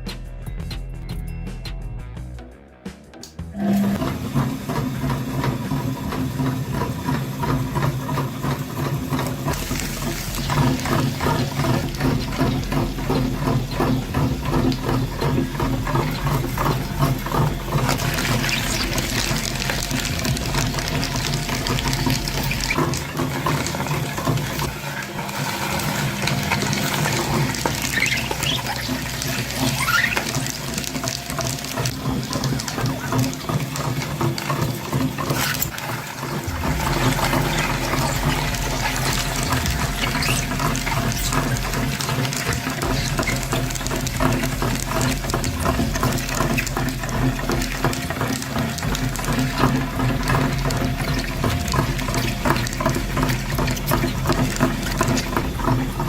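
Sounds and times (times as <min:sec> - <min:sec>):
motor pulsing hum: 0:03.5 - 0:56.0
water splashing and pouring: 0:03.6 - 0:56.0.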